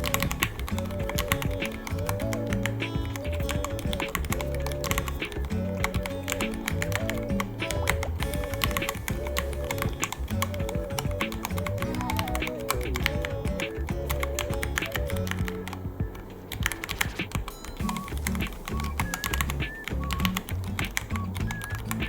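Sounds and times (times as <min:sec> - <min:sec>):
background music: 0:00.0 - 0:22.0
mechanical keyboard typing: 0:00.0 - 0:22.0.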